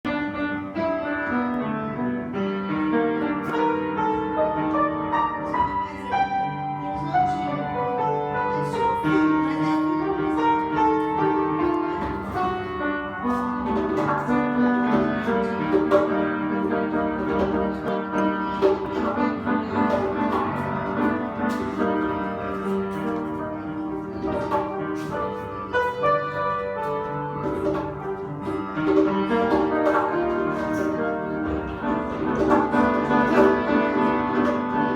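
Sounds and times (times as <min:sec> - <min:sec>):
piano playing: 0:00.0 - 0:34.9.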